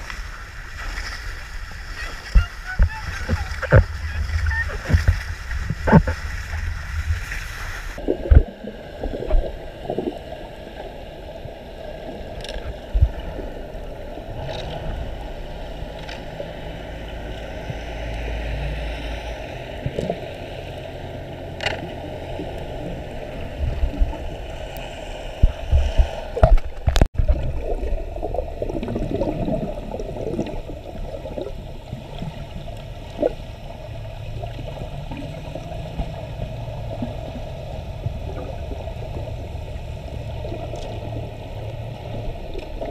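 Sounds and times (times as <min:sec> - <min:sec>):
muffled water sloshing underwater: 0:00.0 - 0:42.9.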